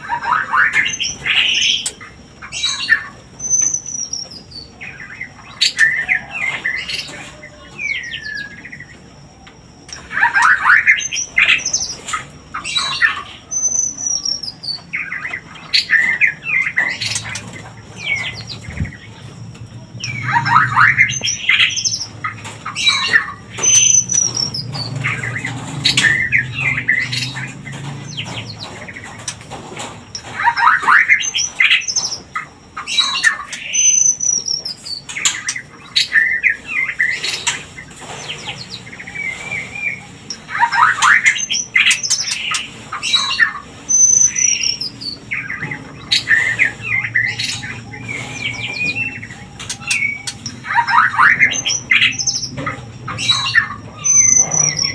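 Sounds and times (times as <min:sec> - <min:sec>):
birds chattering and whistling: 0:00.0 - 0:54.9.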